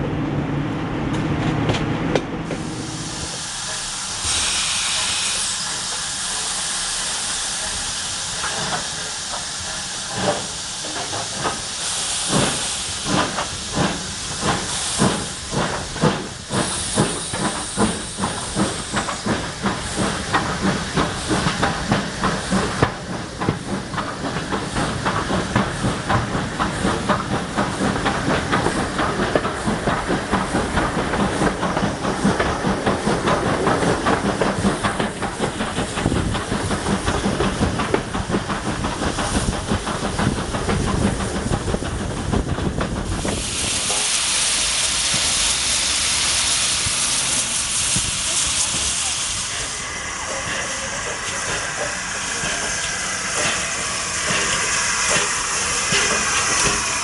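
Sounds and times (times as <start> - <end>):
steam locomotive beats: 0.0 - 57.0
steam hiss bursts: 2.6 - 57.0.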